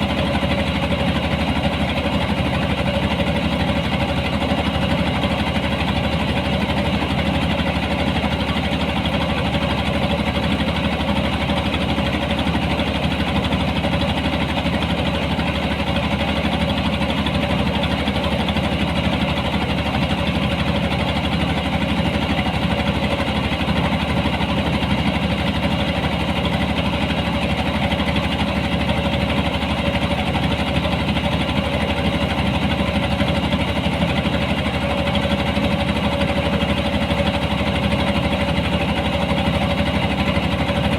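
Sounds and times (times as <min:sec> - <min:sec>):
harvesting machine engine running: 0:00.0 - 0:40.9.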